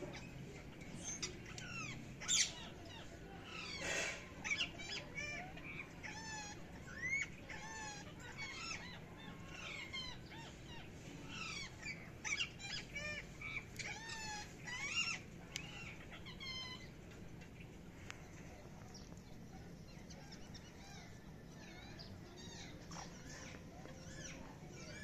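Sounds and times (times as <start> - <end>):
parakeets chirping: 0.0 - 17.6, 18.3 - 25.0.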